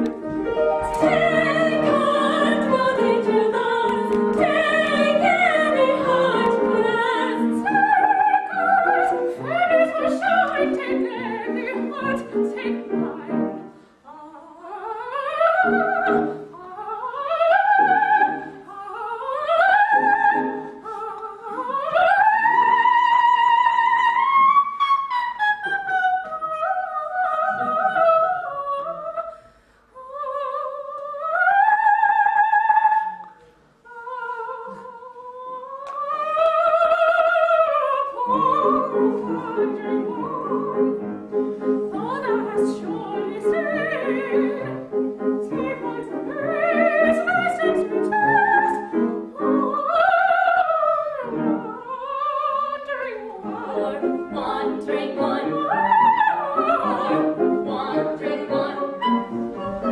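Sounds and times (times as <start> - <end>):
soprano singing alone: 0.0 - 29.4, 30.0 - 59.9
women singing operatically: 0.0 - 29.4, 30.0 - 59.9.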